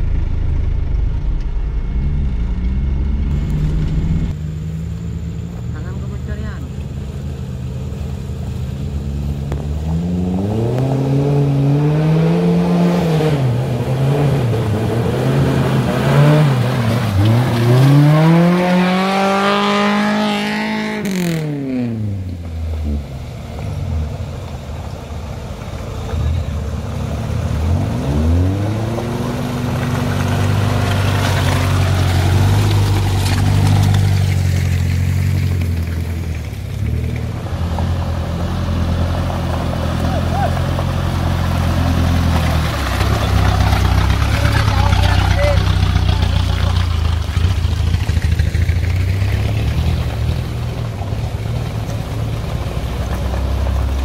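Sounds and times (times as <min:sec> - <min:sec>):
off-road engines revving: 0:00.0 - 0:54.0.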